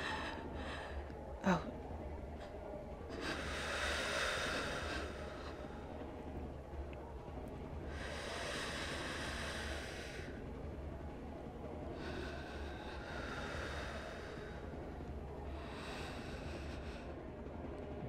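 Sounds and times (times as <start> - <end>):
people breathing deeply: 0.0 - 1.4, 2.0 - 7.1, 7.8 - 17.8
low steady hum: 0.0 - 18.0.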